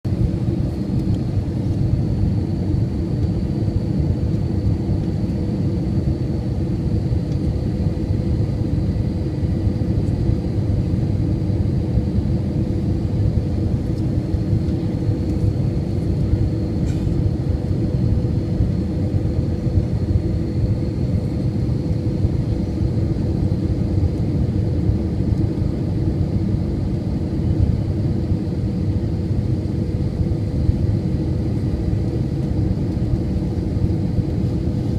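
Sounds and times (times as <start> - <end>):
jet engines droning: 0.1 - 34.9.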